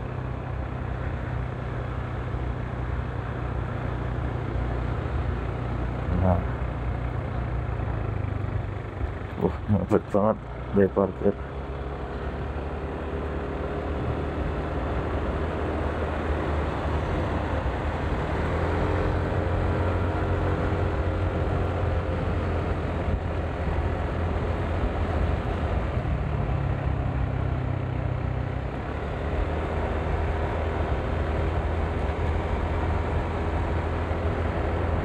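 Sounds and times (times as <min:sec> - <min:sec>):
motor scooter engine hum: 0:00.0 - 0:35.0
road and wind noise: 0:00.0 - 0:35.0.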